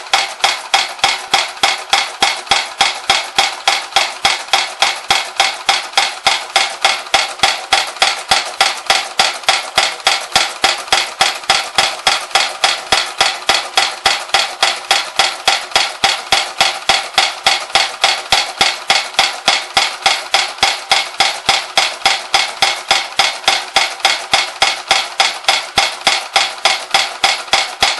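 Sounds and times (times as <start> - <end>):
toy trip-hammer clacking metal: 0.0 - 27.9.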